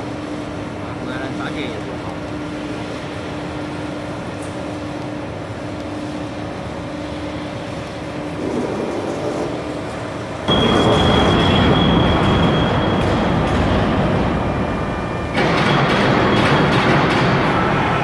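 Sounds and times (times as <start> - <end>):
high machine whine: 0.0 - 18.0
machine hum: 0.0 - 18.0.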